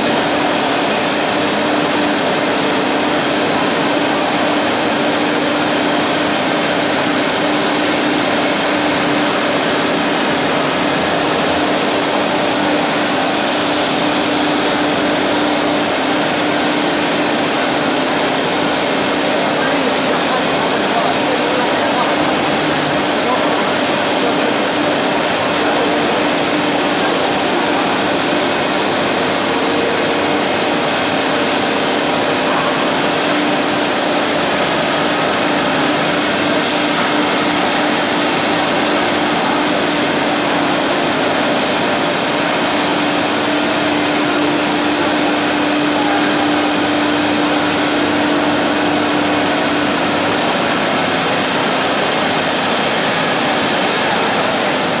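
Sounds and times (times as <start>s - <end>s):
router spindle whirring: 0.0s - 55.0s.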